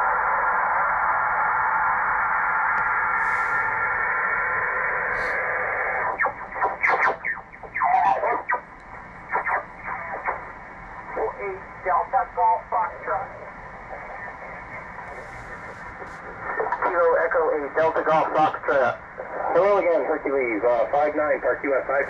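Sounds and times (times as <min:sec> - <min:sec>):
radio static hiss: 0:02.7 - 0:22.0
choppy radio signal bursts: 0:02.8 - 0:22.0.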